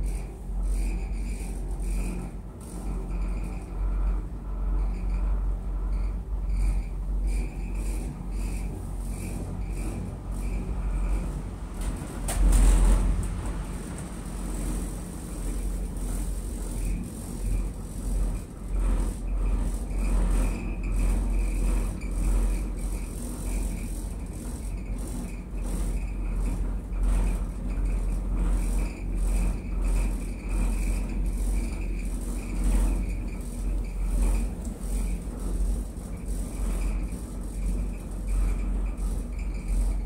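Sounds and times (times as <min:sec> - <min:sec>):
gondola cabin rumble: 0:00.0 - 0:40.0.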